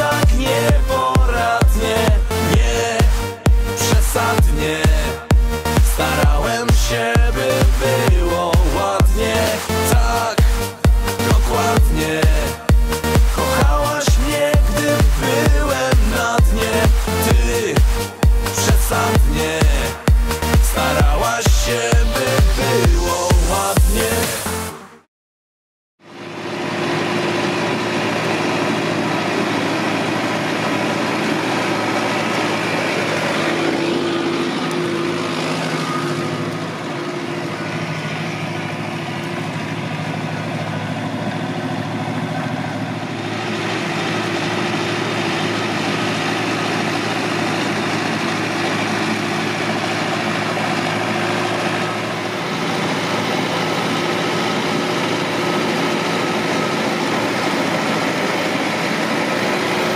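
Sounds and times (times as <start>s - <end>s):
tractor diesel engine running: 0.0s - 25.0s, 26.0s - 59.9s.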